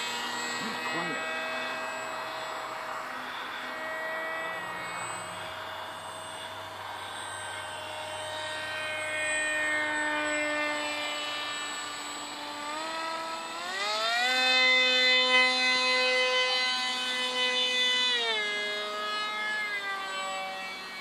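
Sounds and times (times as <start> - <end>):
electric motor propeller whining: 0.0 - 21.0.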